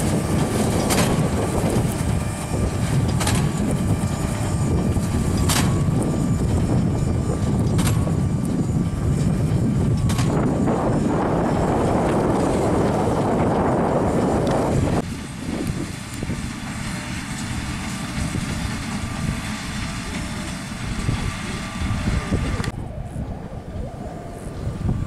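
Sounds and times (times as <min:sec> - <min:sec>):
tractor and baler droning: 0:00.0 - 0:25.0.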